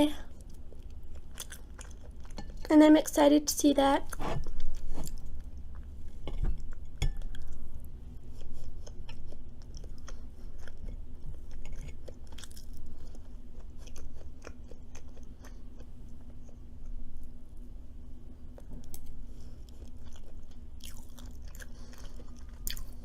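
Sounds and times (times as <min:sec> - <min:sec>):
faint low hum: 0:00.0 - 0:23.0
chewing with soft crunches: 0:00.1 - 0:02.7, 0:04.0 - 0:23.0.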